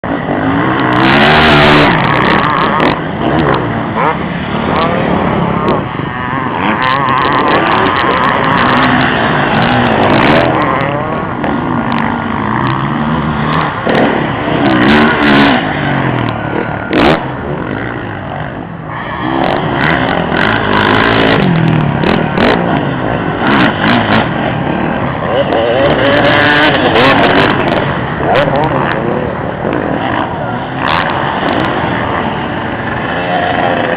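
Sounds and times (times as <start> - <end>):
motocross bikes revving: 0.0 - 33.9.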